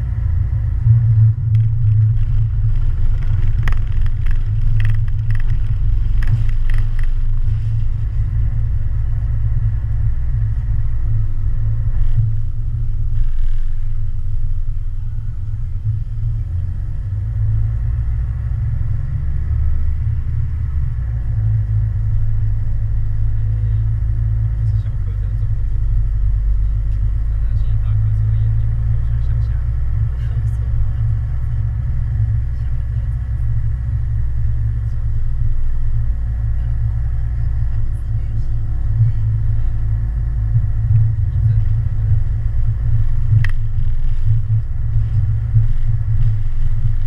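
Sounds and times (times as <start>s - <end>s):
low vehicle rumble: 0.0s - 47.0s.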